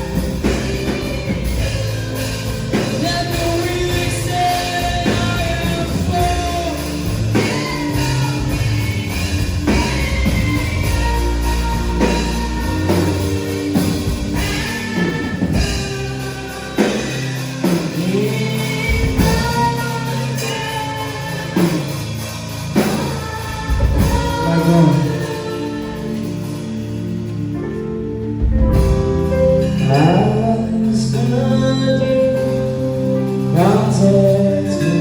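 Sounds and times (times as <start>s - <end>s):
person singing: 0.0s - 27.2s, 28.4s - 35.0s
band playing worship music: 0.0s - 35.0s.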